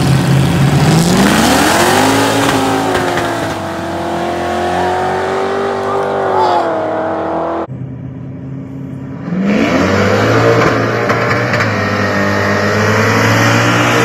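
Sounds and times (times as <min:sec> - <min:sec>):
race cars at full throttle: 0:00.0 - 0:14.0.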